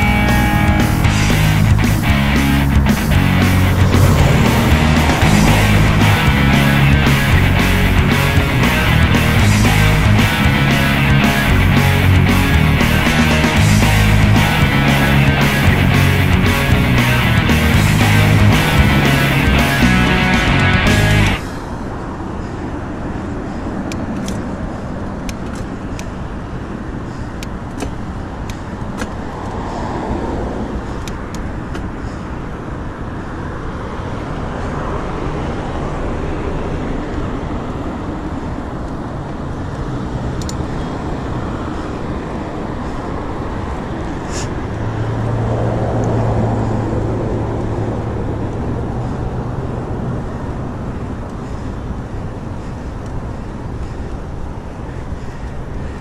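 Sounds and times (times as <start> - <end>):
low vehicle engine hum: 0.0 - 33.0, 34.1 - 56.0
cars passing on busy road: 0.0 - 56.0.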